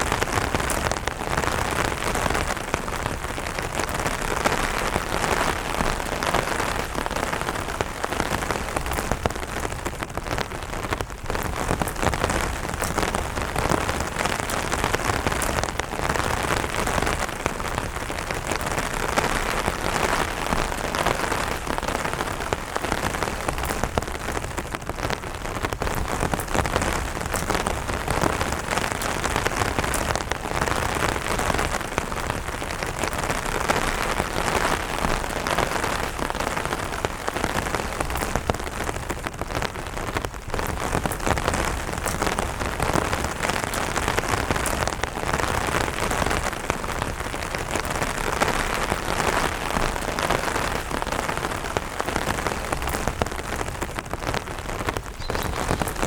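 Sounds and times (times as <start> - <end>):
rain pattering on umbrella: 0.0 - 56.0.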